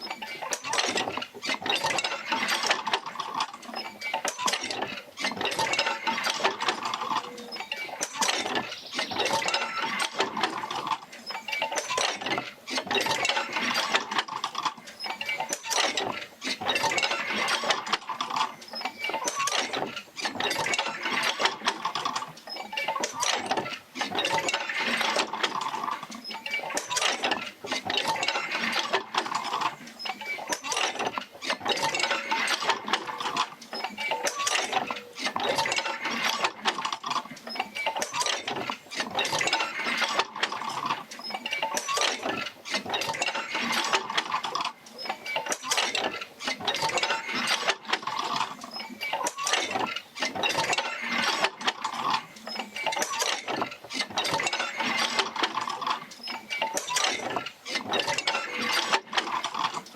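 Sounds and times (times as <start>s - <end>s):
wheel clanking and creaking: 0.0s - 59.9s.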